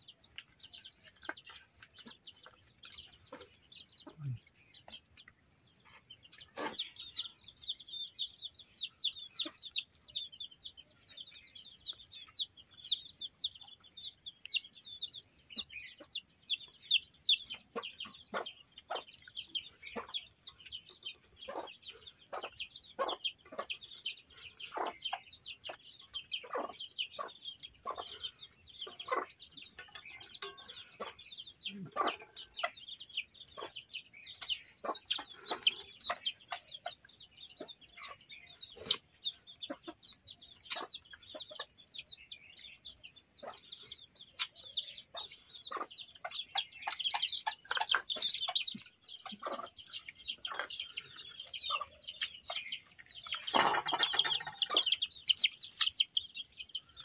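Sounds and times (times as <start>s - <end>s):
chickens clucking: 0.0s - 57.0s
small birds chirping: 0.0s - 57.0s.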